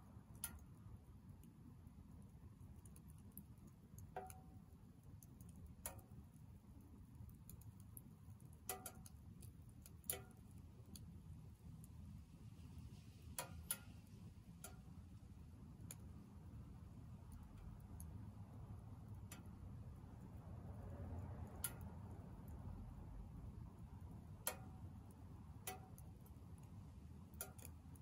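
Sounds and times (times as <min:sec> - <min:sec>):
firewood crackling in a stove: 0:00.0 - 0:28.0.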